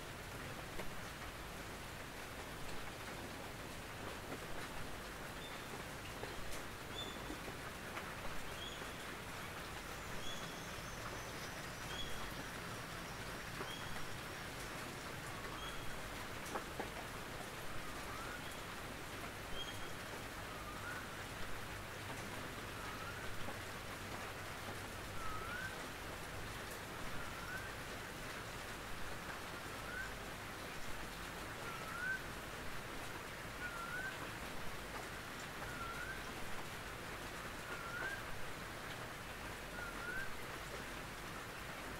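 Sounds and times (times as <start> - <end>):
rain on a tin roof: 0.0 - 41.9.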